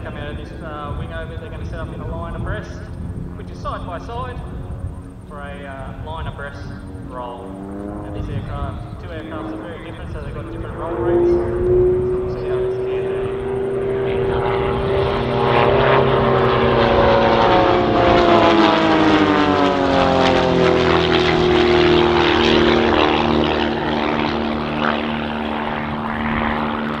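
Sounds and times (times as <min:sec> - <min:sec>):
biplane engines droning: 0:00.0 - 0:27.0.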